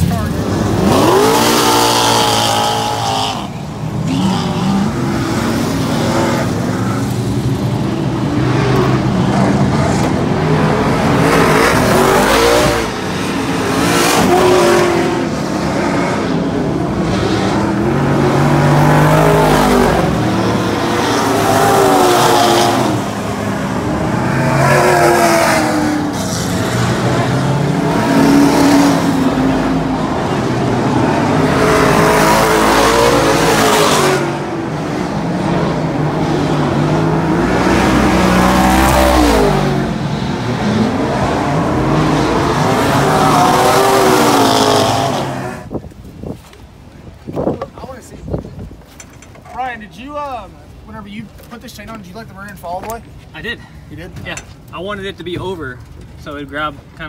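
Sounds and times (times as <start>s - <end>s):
race car engines revving: 0.0s - 49.6s.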